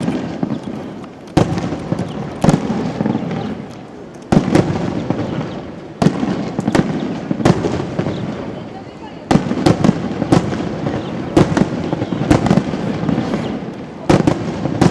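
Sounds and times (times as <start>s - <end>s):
fireworks booming with echo: 0.0s - 14.9s.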